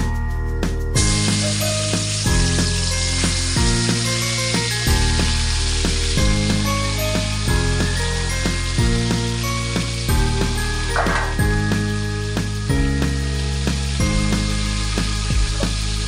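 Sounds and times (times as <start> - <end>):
background music with a beat: 0.0 - 16.0
beef sizzling in a wok: 0.0 - 16.0.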